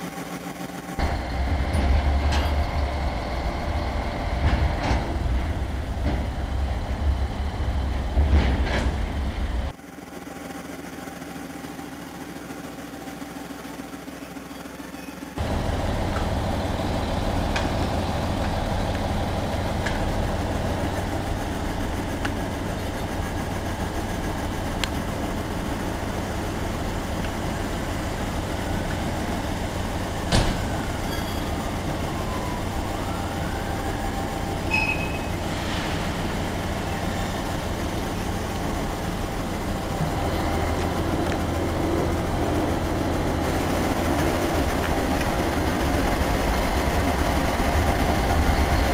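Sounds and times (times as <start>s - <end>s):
model locomotive engine hum: 0.0s - 48.9s.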